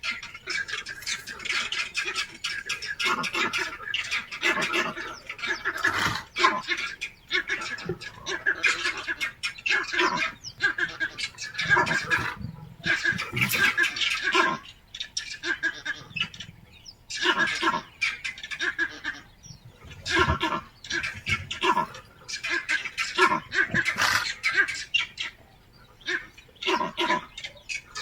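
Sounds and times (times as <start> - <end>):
many birds calling: 0.0 - 28.0.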